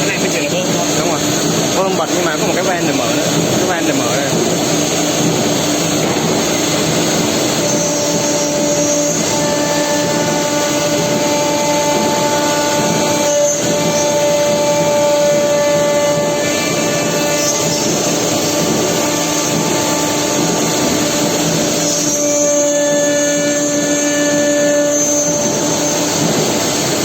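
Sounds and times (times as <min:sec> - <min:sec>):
router spindle cutting wood: 0:00.0 - 0:27.0.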